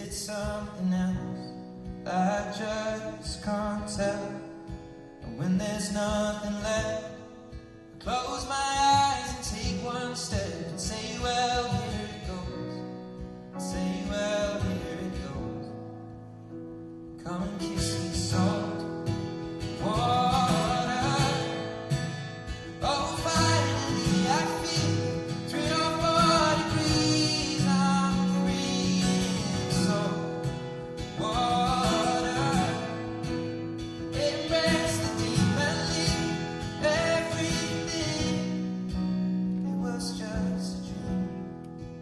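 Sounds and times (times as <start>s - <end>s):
man singing: 0.0s - 4.6s, 5.3s - 7.2s, 8.0s - 12.9s, 13.6s - 15.8s, 17.2s - 33.4s, 34.0s - 38.8s, 39.6s - 41.2s
acoustic guitar: 0.0s - 42.0s.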